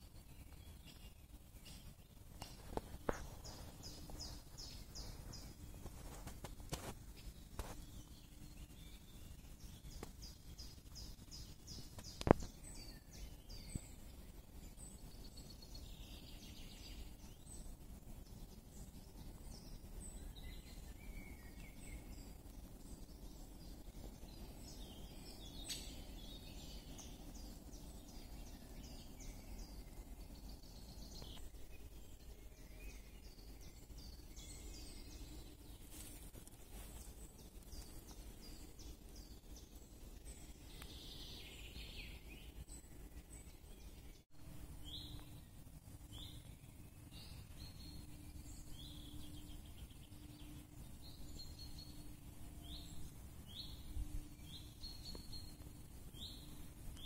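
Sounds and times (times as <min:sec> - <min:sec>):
low steady background rumble: 0:00.0 - 0:57.0
songbirds singing and chirping: 0:00.0 - 0:57.0.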